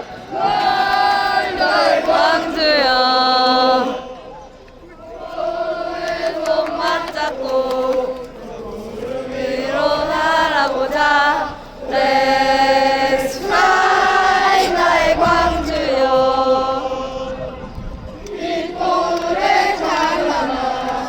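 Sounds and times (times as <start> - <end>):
crowd singing a chant: 0.0 - 21.0.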